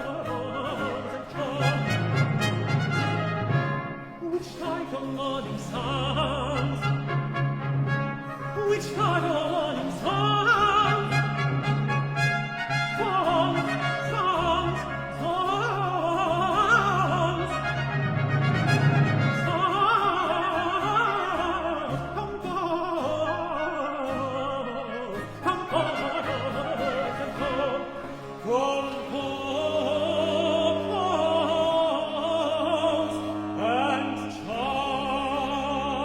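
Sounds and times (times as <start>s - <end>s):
countertenor singing: 0.0s - 36.0s
orchestra with trumpets: 0.0s - 36.0s.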